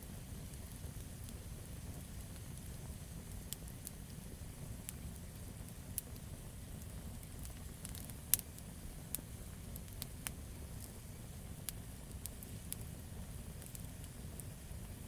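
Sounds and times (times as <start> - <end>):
low rumble of fire burning: 0.0 - 15.0
wood fire pops and snaps: 0.1 - 15.0.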